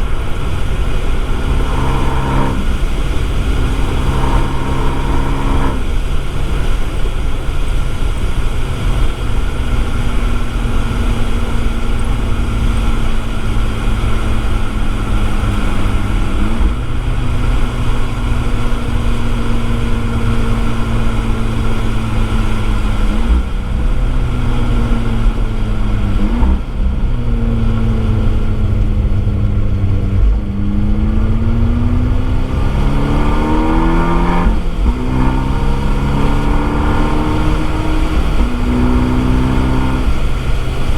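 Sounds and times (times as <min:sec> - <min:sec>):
car engine revving and shifting: 0:00.0 - 0:40.9.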